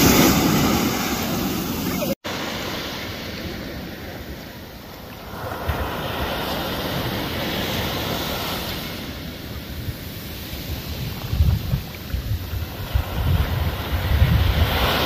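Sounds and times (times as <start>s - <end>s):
wave breaking and washing in: 0.0s - 15.0s
wind gusting on microphone: 0.0s - 15.0s.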